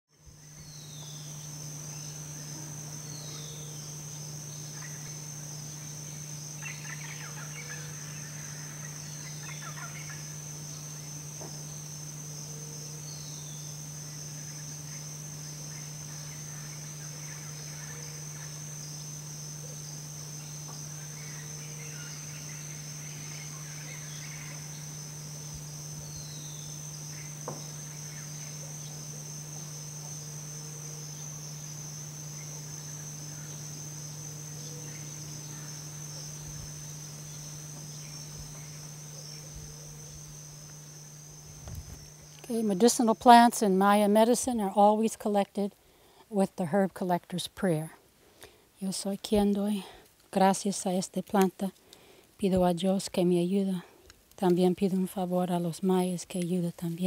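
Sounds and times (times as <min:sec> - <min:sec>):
insect chorus: 0:00.1 - 0:57.0
low steady hum: 0:00.1 - 0:57.0.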